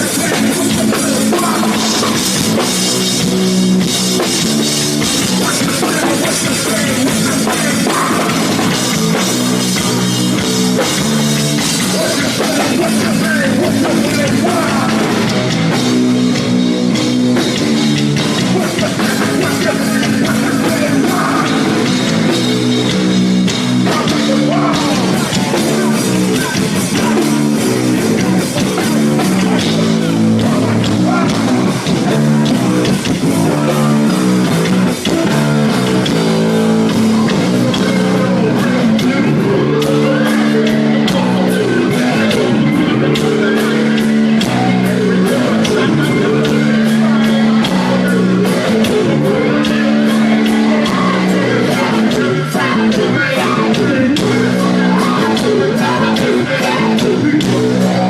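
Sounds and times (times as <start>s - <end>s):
rap-rock band playing live: 0.0s - 58.0s
vocalist singing: 0.0s - 58.0s.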